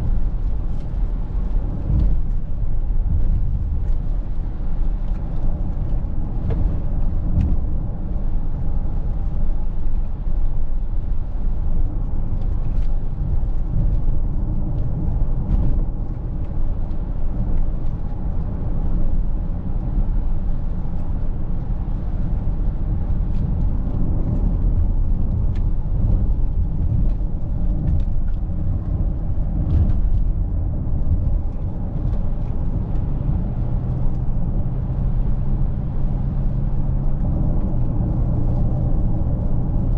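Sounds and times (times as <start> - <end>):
car tyre road and wind rumble: 0.0 - 39.9.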